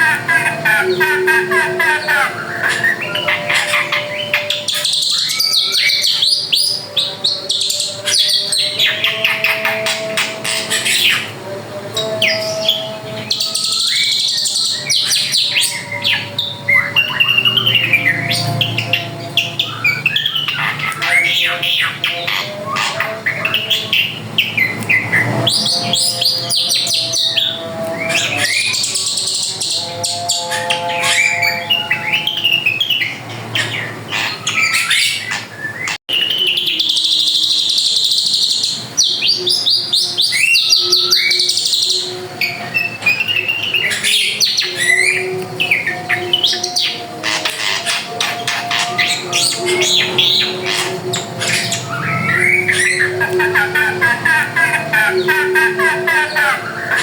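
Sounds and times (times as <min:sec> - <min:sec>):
bird singing whistles and trills: 0:00.0 - 0:11.3, 0:12.0 - 0:57.0.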